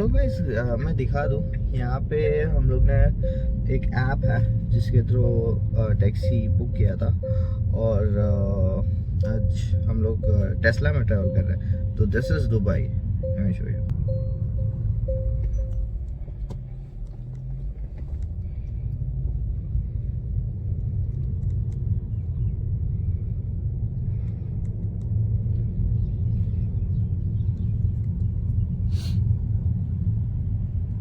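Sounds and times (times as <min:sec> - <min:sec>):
road and tyre noise in car: 0:00.0 - 0:31.0.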